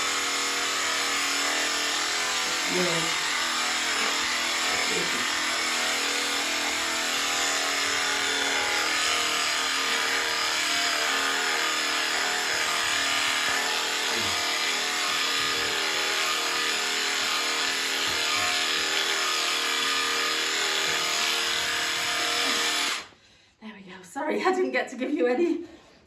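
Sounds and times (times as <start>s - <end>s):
electric sheep shears buzzing: 0.0s - 23.1s.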